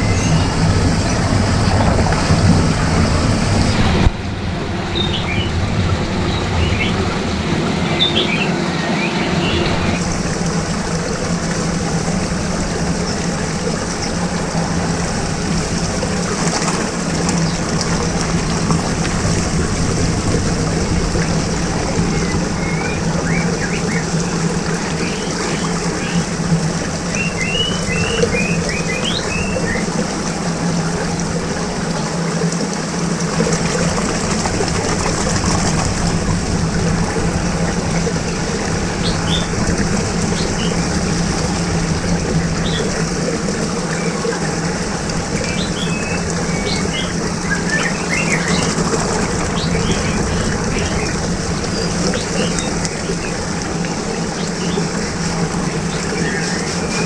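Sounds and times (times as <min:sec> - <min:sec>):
low hum: 0:00.0 - 0:31.9, 0:32.9 - 0:56.8
swirling water rushing: 0:00.0 - 0:57.0.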